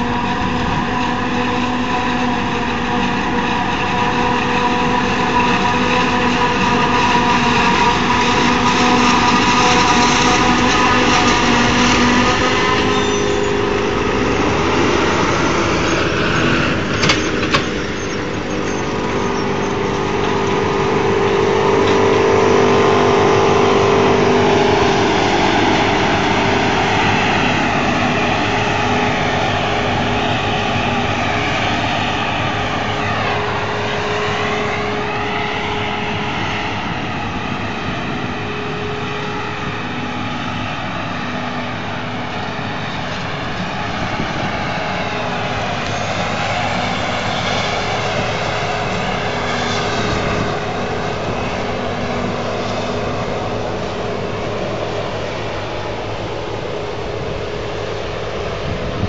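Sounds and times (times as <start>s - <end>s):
engine and cutter drone: 0.0s - 59.0s.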